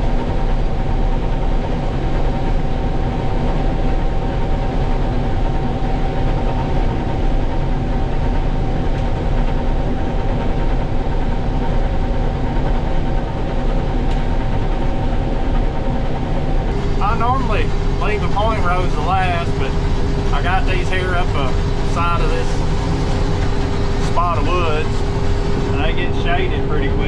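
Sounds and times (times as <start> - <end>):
combine harvester engine drone: 0.0 - 27.0
constant machine whine: 0.0 - 27.0.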